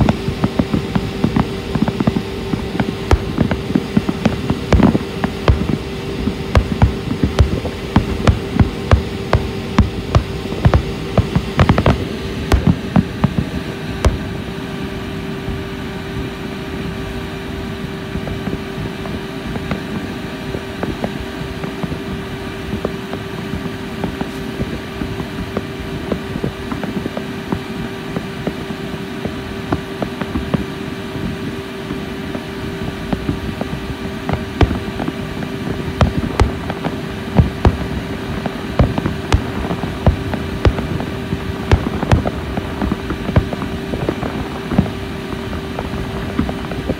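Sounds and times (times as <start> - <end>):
boat engine hum: 0.0 - 46.9
fireworks bangs: 0.0 - 46.9.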